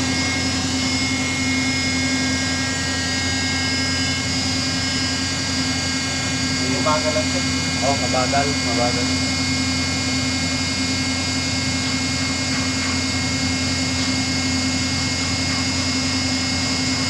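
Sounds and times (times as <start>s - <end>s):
crane machine hum: 0.0s - 17.0s.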